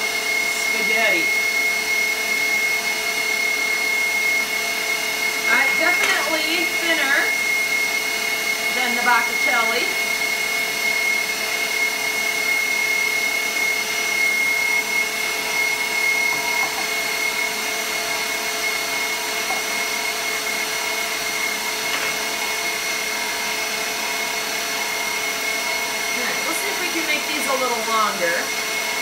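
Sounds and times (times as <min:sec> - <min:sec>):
mixer motor whining: 0:00.0 - 0:29.0.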